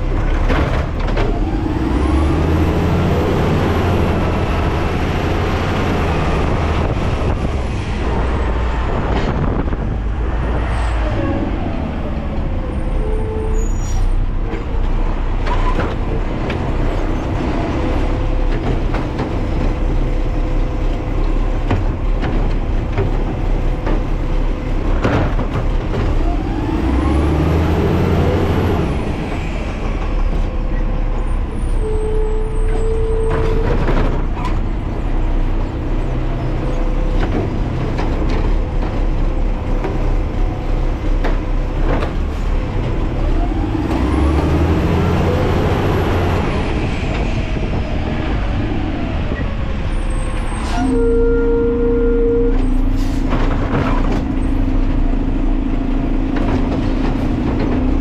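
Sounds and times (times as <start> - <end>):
garbage truck engine revving: 0.0 - 50.7.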